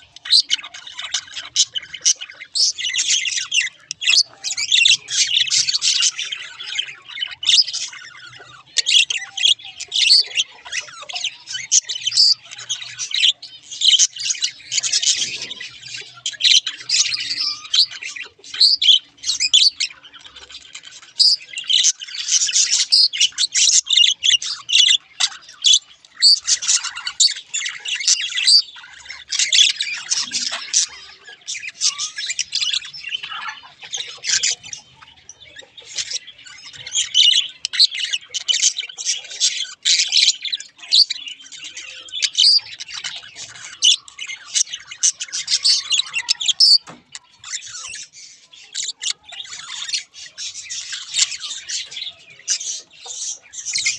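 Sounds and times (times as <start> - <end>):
budgerigars chattering and warbling: 0.0 - 53.9.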